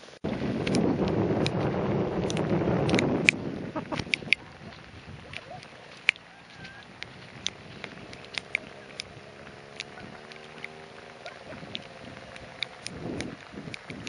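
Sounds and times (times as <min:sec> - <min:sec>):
rain ticking: 0:00.0 - 0:14.0
low rumble: 0:00.2 - 0:14.0
distant motorcycle engine: 0:00.3 - 0:14.0.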